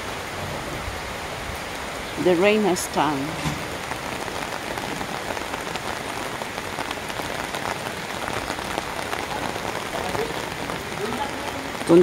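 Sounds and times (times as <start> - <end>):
rain pattering on umbrella: 0.0 - 12.0.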